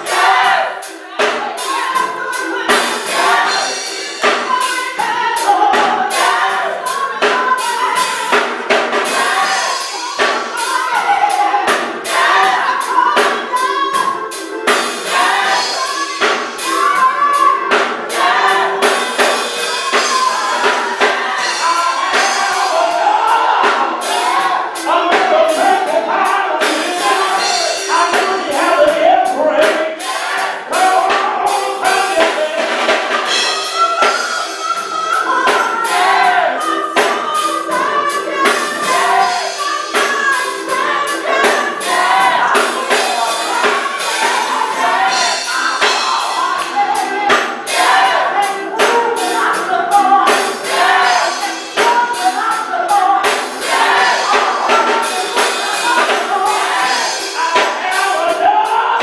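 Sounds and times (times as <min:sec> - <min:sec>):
drum beat: 0:00.0 - 0:59.0
gospel choir singing: 0:00.0 - 0:59.0
lead singer: 0:00.0 - 0:59.0.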